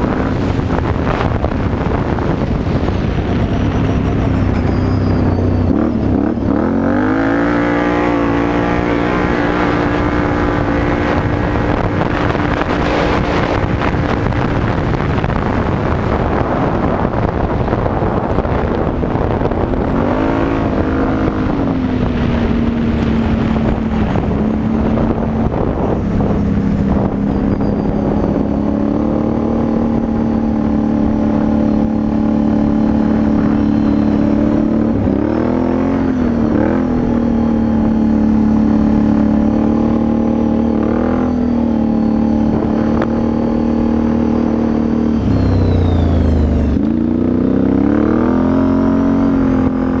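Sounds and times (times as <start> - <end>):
quad bike engine revving: 0.0 - 50.0.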